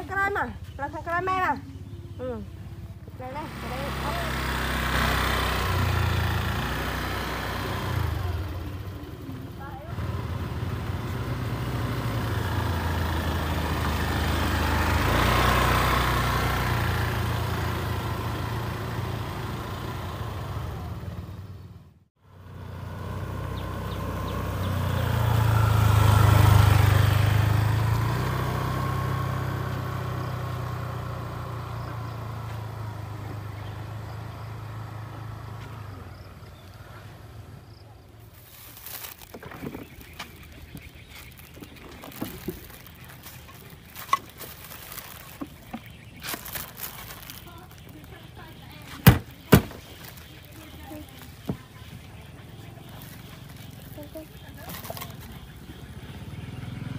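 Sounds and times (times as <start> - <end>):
motor scooter riding past: 0.0 - 56.9.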